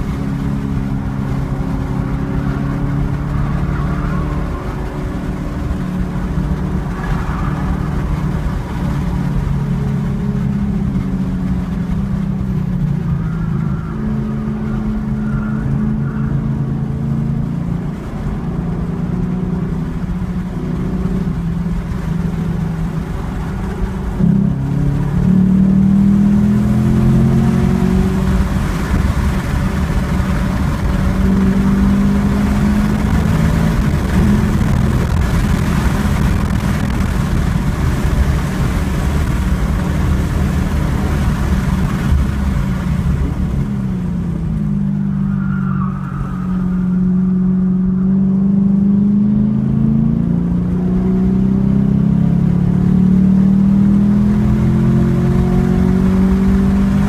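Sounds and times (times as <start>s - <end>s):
car engine at full throttle: 0.0s - 57.0s
wind and tyre roar: 0.0s - 57.0s.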